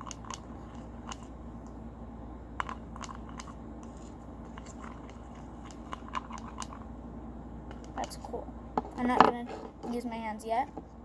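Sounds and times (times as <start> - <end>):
utensil stirring slime in bowl: 0.0 - 1.8, 2.6 - 6.9, 7.7 - 11.0.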